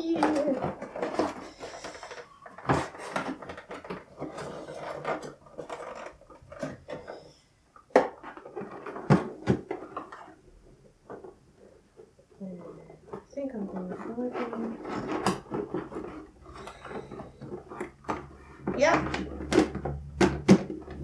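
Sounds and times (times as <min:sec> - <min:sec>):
objects rustling and clattering: 0:00.0 - 0:21.0.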